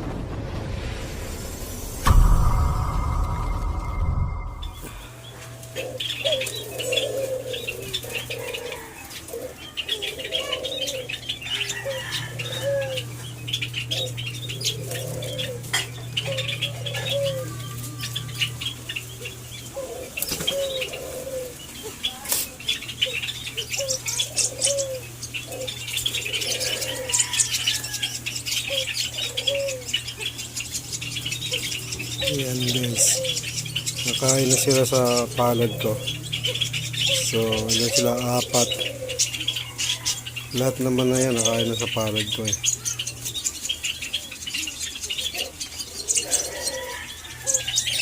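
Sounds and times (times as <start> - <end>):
steady low hum: 0.0 - 9.4, 10.0 - 44.8
doves cooing: 5.3 - 48.0.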